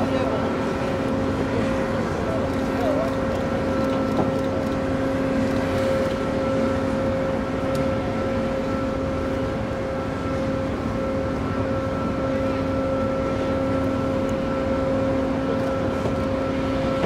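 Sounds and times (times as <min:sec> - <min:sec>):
heavy machinery drone: 0:00.0 - 0:17.0.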